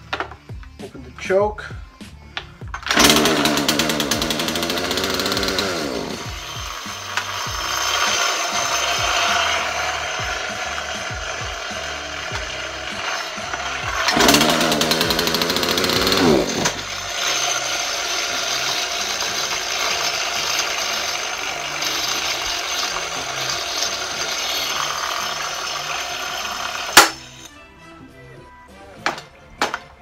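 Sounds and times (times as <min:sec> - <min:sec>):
chainsaw engine revving and idling: 0:02.9 - 0:27.5.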